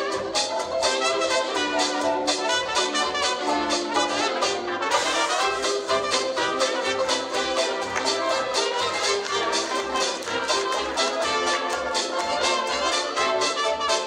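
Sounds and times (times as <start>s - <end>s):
hot jazz band playing: 0.0s - 14.0s.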